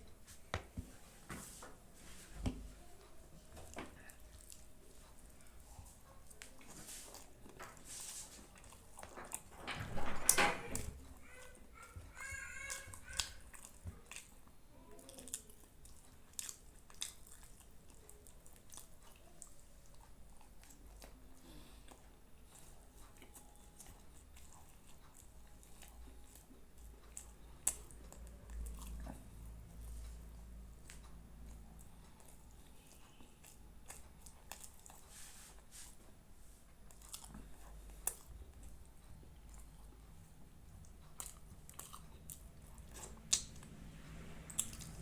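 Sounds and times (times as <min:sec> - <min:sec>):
person chewing: 0:02.5 - 0:09.5, 0:11.2 - 0:43.8, 0:44.4 - 0:45.0.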